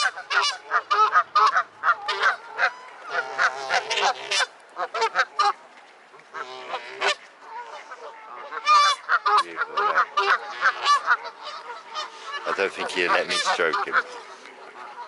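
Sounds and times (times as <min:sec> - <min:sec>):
water birds honking and squawking: 0:00.0 - 0:15.0.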